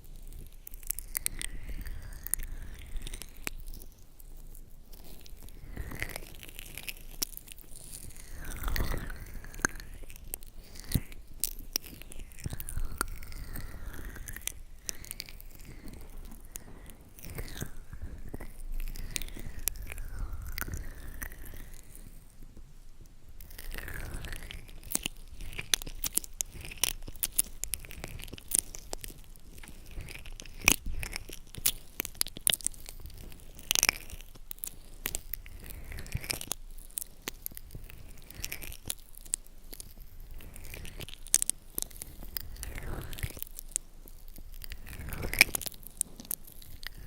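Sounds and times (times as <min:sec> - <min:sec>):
crisp clicks and crackles: 0:00.0 - 0:47.0.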